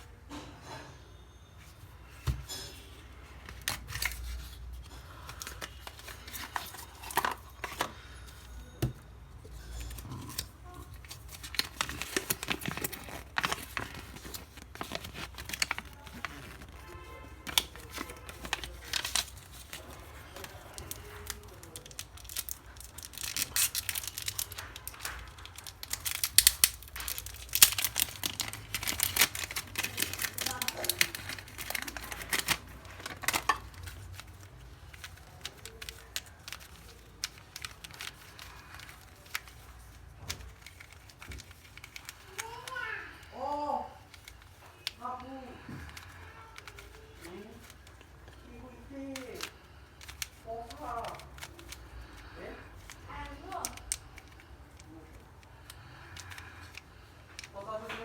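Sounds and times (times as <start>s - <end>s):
plastic packaging crinkling: 2.0s - 58.0s
packaging clicks: 3.4s - 9.0s, 9.6s - 43.3s, 44.0s - 57.7s.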